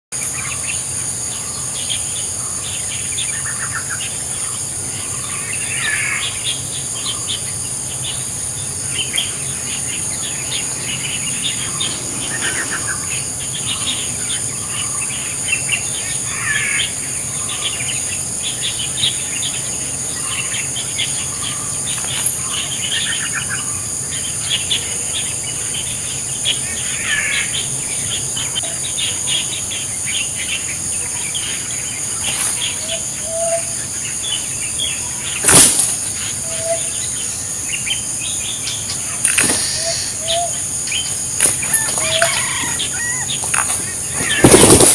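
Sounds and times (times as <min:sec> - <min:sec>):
high insect drone: 0:00.2 - 0:44.9
loud bird calls: 0:00.2 - 0:44.9.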